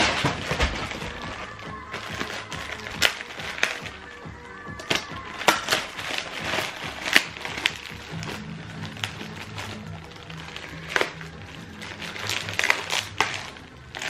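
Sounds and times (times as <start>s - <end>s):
background music: 0.0s - 14.0s
plastic bag crinkling: 0.0s - 14.0s.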